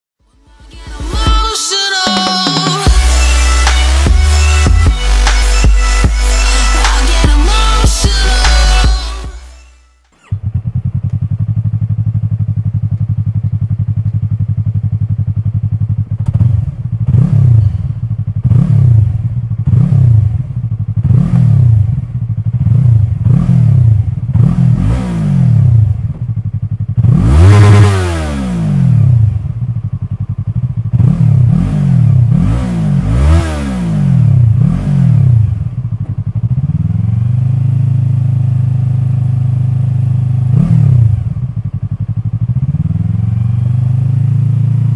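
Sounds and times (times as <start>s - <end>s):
motorcycle engine revving: 2.1s - 44.9s.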